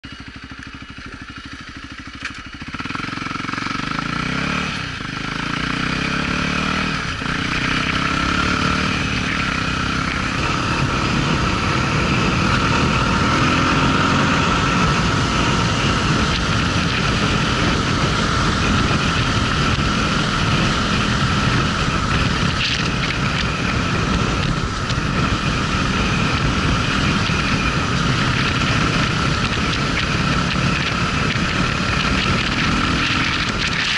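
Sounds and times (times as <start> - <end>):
motorcycle engine revving: 0.0 - 33.9
wind and tyre noise: 0.0 - 33.9.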